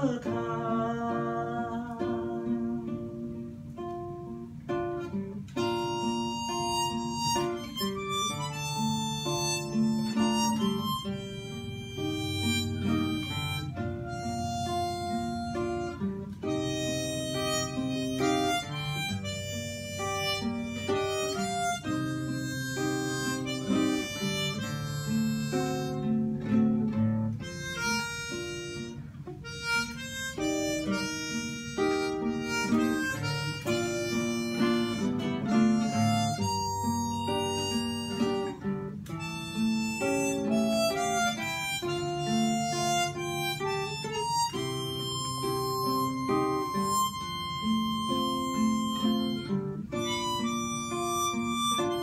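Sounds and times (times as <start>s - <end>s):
classical guitar plucking: 0.0s - 52.0s
harmonica melody: 0.0s - 52.0s.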